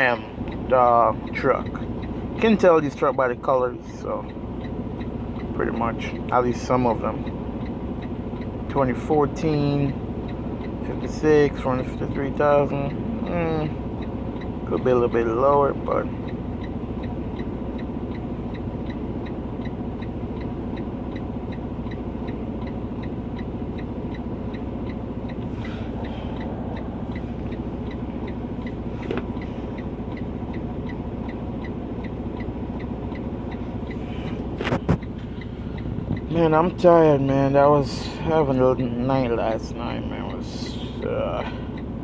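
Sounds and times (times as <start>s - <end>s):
faint regular ticking: 0.0s - 42.0s
vehicle engine droning: 0.0s - 42.0s.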